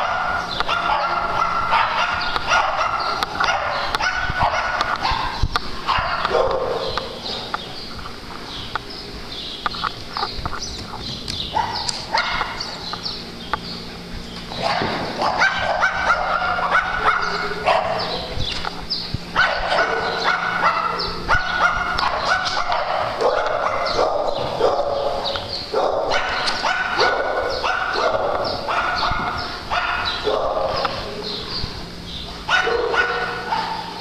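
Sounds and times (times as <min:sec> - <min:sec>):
dogs barking and yipping: 0:00.0 - 0:08.8, 0:09.6 - 0:34.0.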